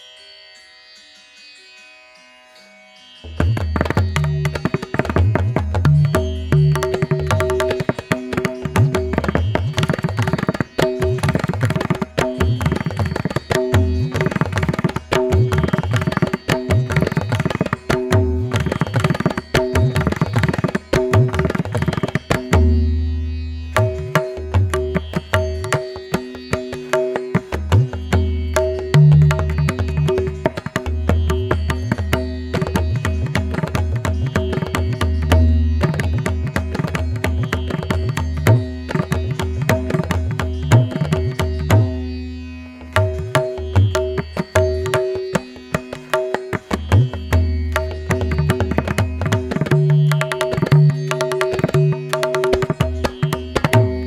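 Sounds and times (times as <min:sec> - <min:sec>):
tabla playing quick rhythm: 0:03.3 - 0:54.0.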